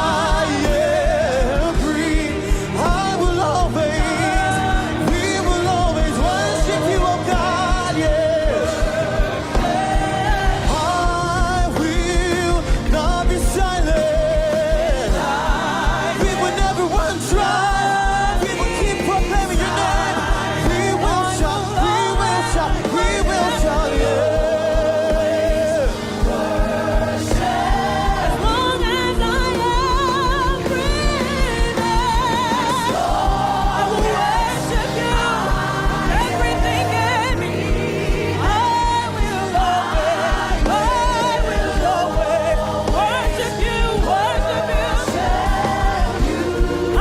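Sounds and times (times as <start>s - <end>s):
band with steady beat: 0.0s - 47.0s
voices singing with vibrato: 0.0s - 47.0s.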